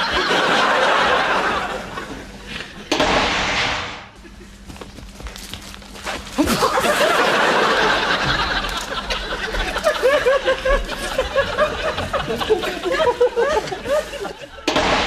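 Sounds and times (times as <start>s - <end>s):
people laughing: 0.0s - 2.9s, 4.2s - 4.8s, 6.4s - 14.9s.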